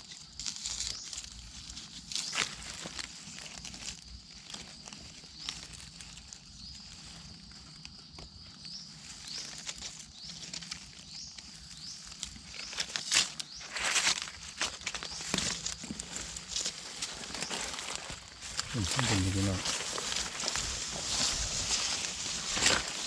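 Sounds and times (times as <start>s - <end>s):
footsteps crackling on dry leaves: 0.0s - 23.0s.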